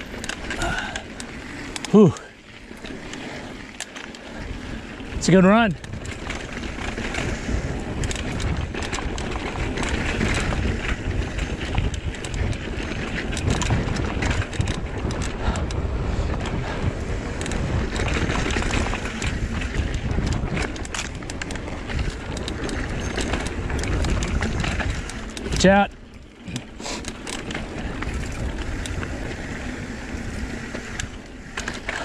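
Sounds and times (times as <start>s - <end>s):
bike clicks and rattles: 0.0s - 32.0s
tyres rolling over dirt: 0.0s - 32.0s
wind buffeting microphone: 0.0s - 32.0s.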